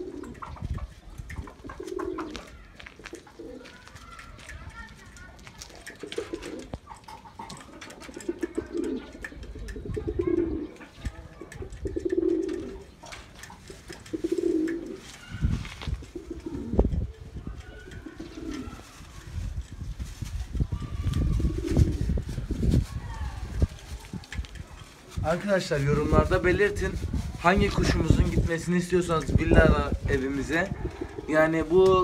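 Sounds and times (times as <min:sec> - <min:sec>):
pigeons cooing: 0:00.0 - 0:04.2, 0:05.8 - 0:19.5, 0:20.8 - 0:26.7, 0:27.5 - 0:32.0.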